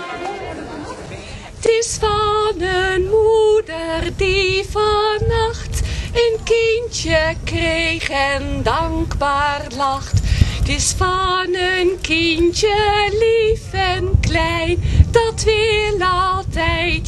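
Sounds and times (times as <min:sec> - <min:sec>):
woman singing into a microphone: 0:01.3 - 0:17.0.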